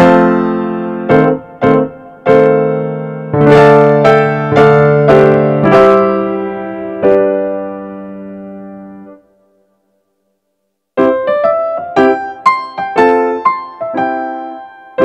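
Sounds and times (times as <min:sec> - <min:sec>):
piano music: 0:00.0 - 0:09.6, 0:11.0 - 0:15.0.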